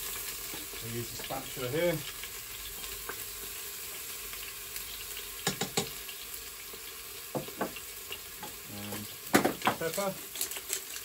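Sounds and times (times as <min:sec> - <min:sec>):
garlic sizzling in oil: 0:00.0 - 0:11.0.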